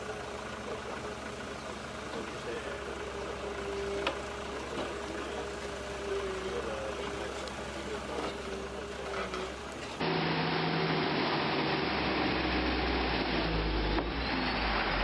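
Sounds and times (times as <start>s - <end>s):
engine running steadily: 0.0s - 15.0s
louder engine with deep hum: 0.0s - 15.0s.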